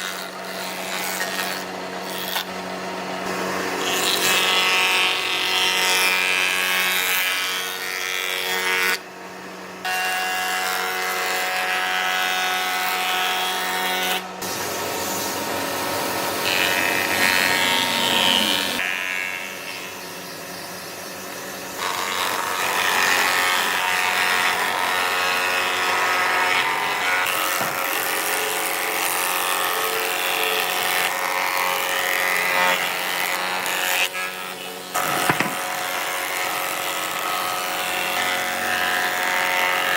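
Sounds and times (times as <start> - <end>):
power tool whining on wood: 0.0 - 39.9.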